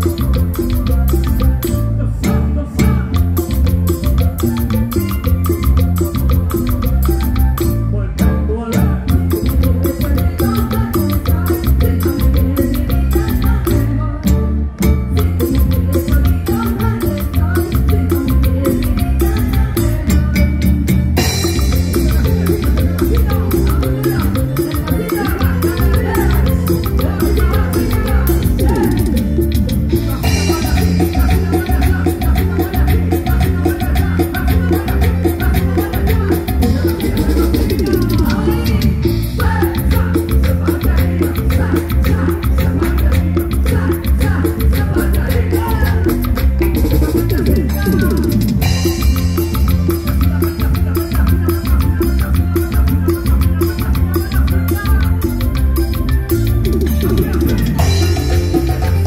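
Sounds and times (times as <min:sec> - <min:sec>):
live band music through pa: 0:00.0 - 0:59.0.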